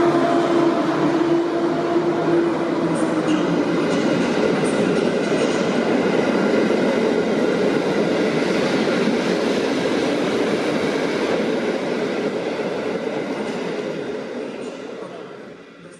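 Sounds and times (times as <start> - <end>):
train wheels rolling on rails: 0.0 - 15.9.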